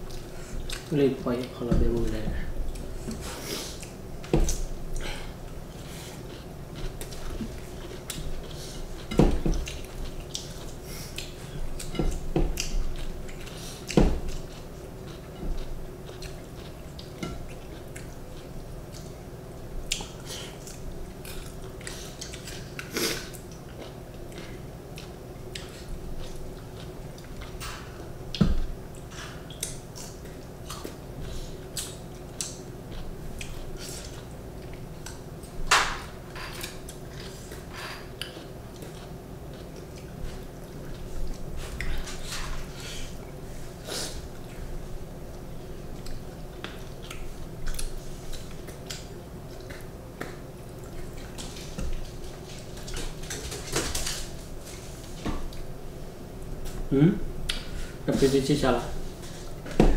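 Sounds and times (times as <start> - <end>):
low steady hum: 0.0 - 59.9
people chewing: 0.0 - 59.9.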